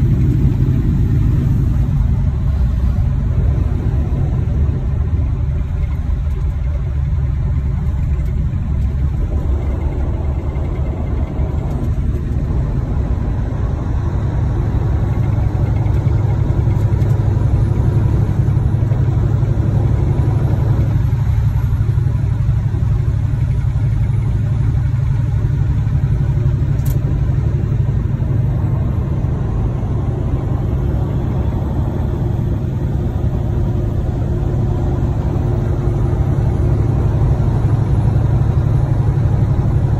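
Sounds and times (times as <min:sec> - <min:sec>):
road noise: 0:00.0 - 0:39.9
truck diesel engine drone: 0:00.0 - 0:39.9.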